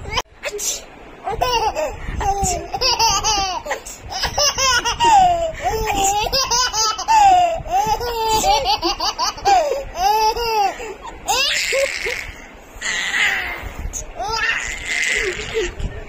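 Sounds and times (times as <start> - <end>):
baby giggling: 1.2 - 15.9.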